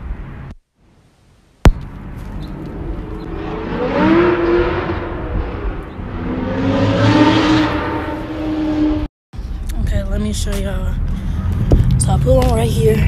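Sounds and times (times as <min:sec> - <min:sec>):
vehicles driving past: 0:01.7 - 0:13.0.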